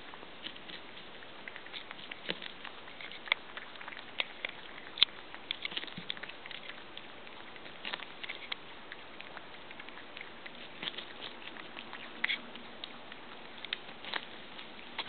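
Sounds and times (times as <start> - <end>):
pets crunching corn: 0.0 - 15.0.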